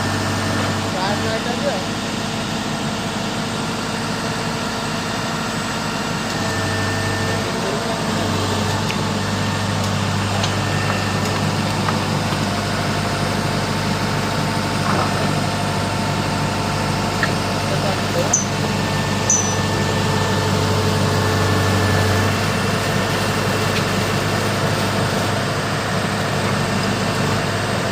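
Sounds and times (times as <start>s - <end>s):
drill machine engine humming: 0.0s - 27.9s.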